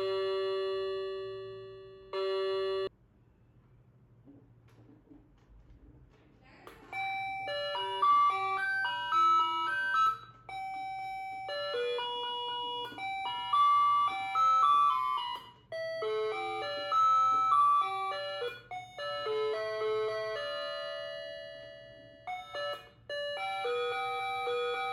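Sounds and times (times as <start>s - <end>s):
electronic clock chime melody: 0.0s - 2.9s, 7.0s - 24.9s.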